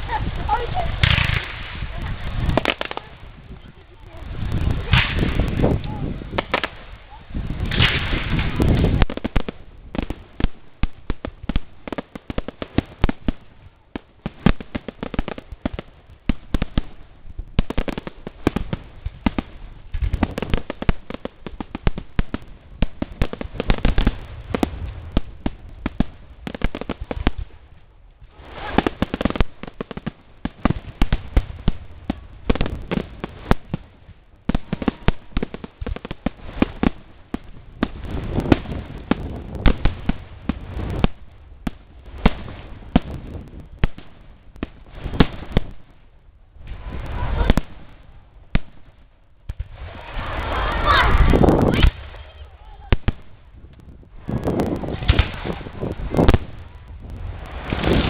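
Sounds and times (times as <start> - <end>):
firecrackers cracking and popping: 0.0 - 58.0.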